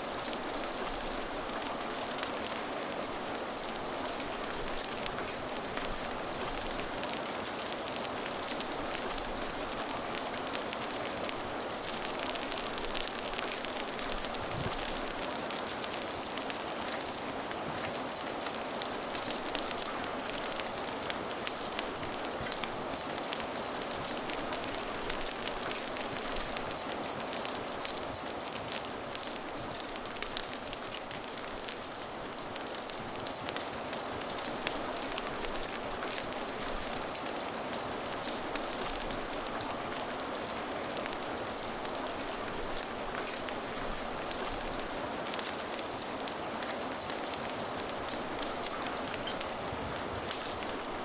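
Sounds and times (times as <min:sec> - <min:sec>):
log fire crackling: 0:00.0 - 0:51.0
steady rain falling: 0:00.0 - 0:51.0.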